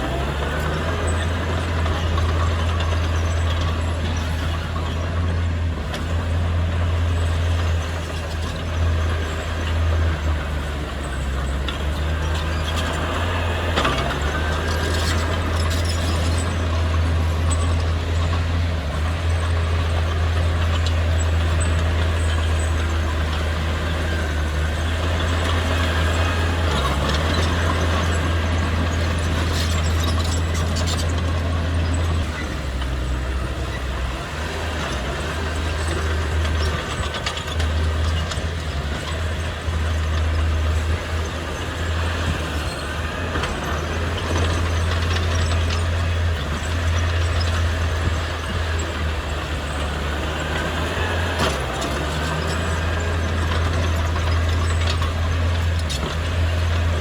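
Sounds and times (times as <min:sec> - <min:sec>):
diesel machinery engine drone: 0:00.0 - 0:57.0
faint metallic clicks and squeaks: 0:07.2 - 0:57.0.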